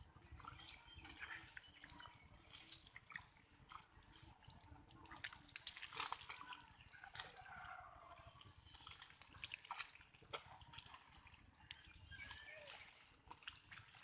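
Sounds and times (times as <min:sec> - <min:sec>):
hands splashing in muddy water: 0:00.0 - 0:14.0.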